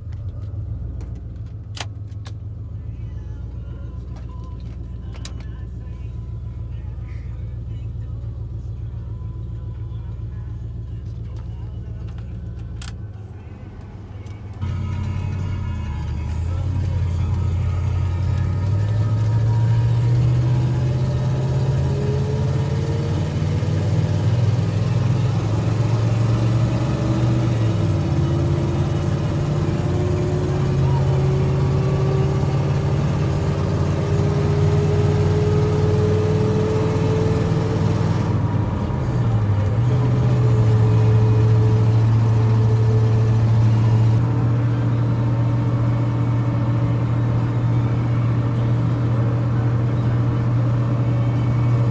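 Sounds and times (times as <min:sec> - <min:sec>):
road noise: 0:00.0 - 0:51.9
truck engine from inside cab: 0:00.0 - 0:51.9.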